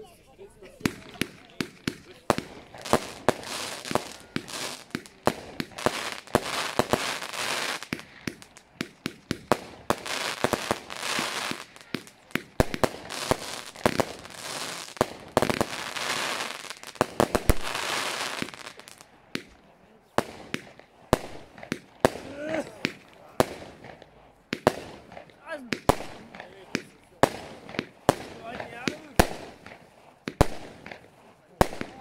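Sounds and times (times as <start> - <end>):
firework stars crackling: 0.0 - 32.0.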